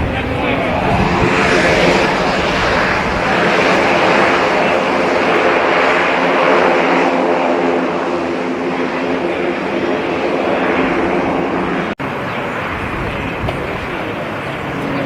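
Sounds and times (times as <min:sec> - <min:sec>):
airliner engines roaring: 0:00.0 - 0:15.0.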